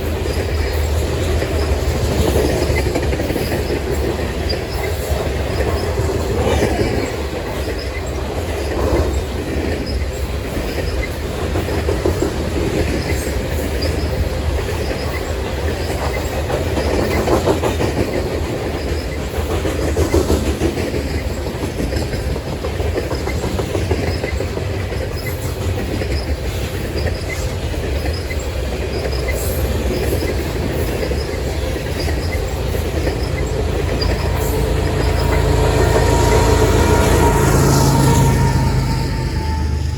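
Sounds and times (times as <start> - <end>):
train cars rumbling past: 0.0 - 39.9
wheels clicking over rail joints: 0.0 - 39.9.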